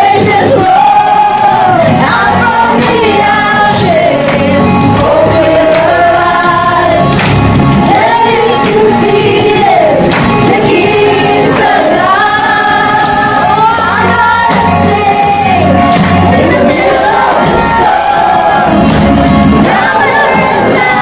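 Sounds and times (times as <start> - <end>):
group singing in unison: 0.0 - 21.0.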